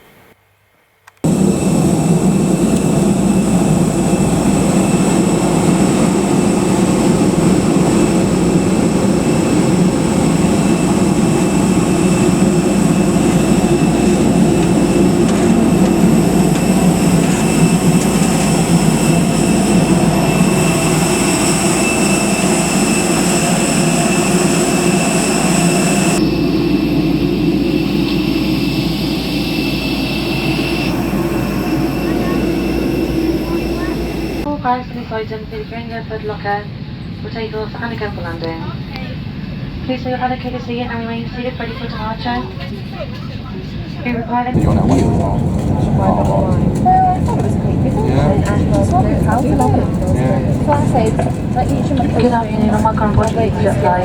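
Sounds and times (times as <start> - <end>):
jet engines rumbling and whining: 1.2 - 54.0.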